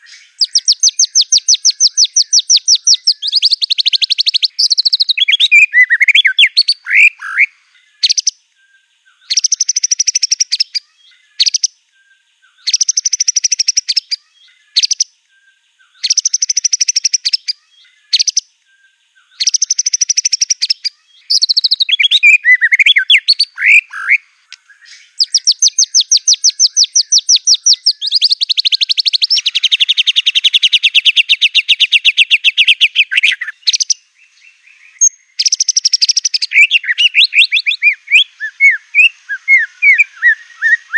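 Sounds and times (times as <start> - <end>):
bird singing trills and whistles: 0.0 - 40.9.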